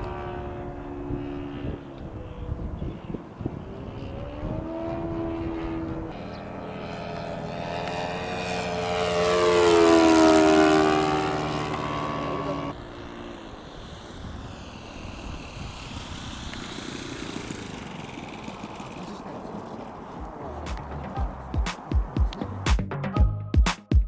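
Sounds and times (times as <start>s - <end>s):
model plane propeller engine passing: 0.0s - 21.1s.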